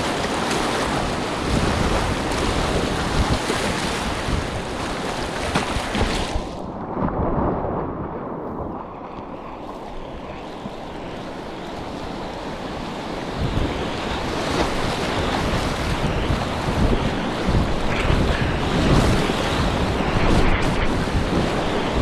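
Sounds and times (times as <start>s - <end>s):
paddle strokes splashing: 0.0s - 6.6s, 9.0s - 22.0s
waves slapping a hull: 0.0s - 22.0s.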